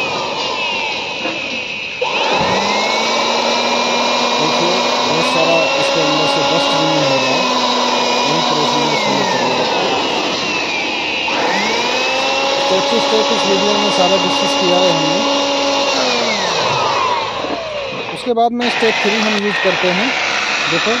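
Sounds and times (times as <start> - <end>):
electric air blower whining: 0.0 - 21.0.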